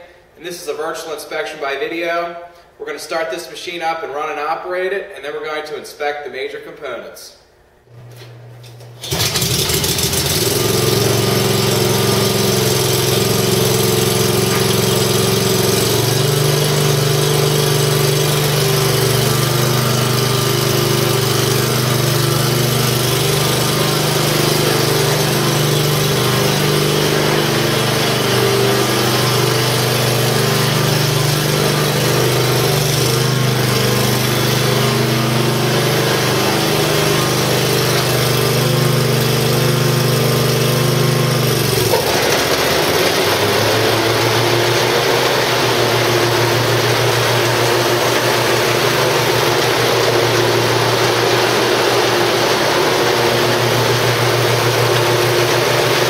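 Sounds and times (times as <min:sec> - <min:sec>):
pull-start mower engine running: 0:07.9 - 0:56.0.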